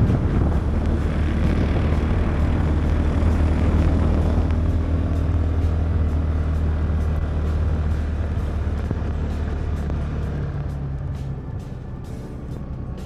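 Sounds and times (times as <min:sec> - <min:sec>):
tyres on snow: 0:00.0 - 0:13.0
vehicle engine droning: 0:00.0 - 0:13.0.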